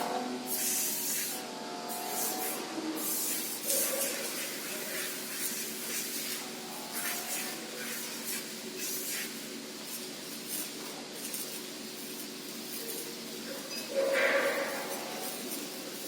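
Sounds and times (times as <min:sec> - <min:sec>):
lathe machining hiss: 0:00.4 - 0:16.0.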